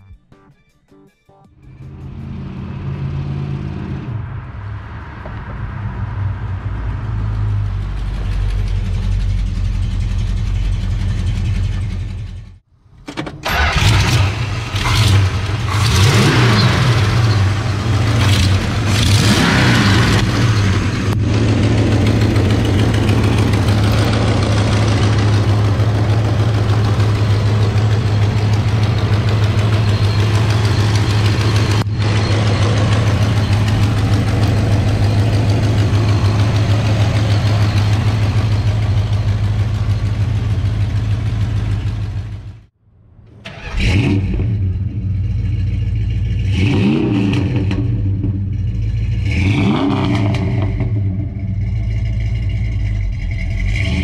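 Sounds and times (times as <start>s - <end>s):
car engine driving: 1.5s - 54.0s
engine idling: 6.5s - 46.8s, 47.8s - 49.6s, 50.4s - 54.0s
engine starting and revving: 7.4s - 42.6s, 43.3s - 54.0s.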